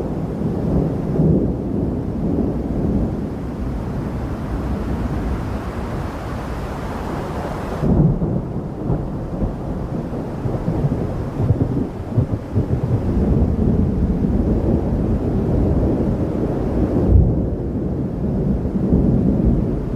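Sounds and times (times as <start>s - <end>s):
rain hiss: 0.0s - 16.1s
thunder rumbling: 0.0s - 19.9s.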